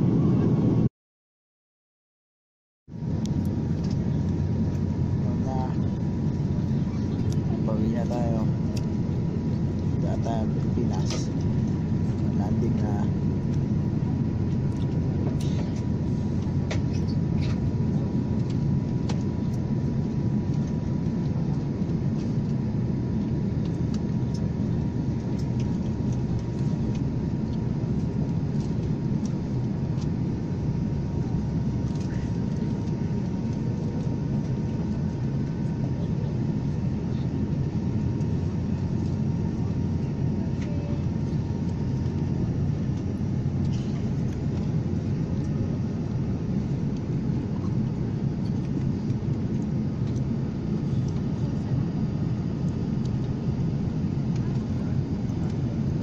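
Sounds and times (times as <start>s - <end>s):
airliner cabin rumble: 0.0s - 0.9s, 2.9s - 56.0s.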